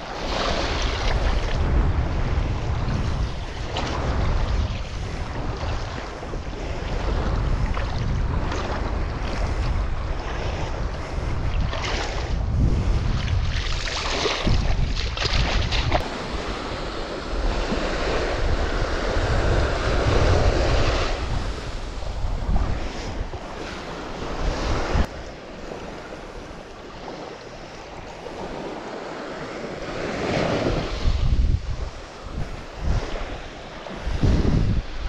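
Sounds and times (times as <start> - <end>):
small waves washing on beach: 0.0 - 35.0
wind gusting on microphone: 0.0 - 35.0.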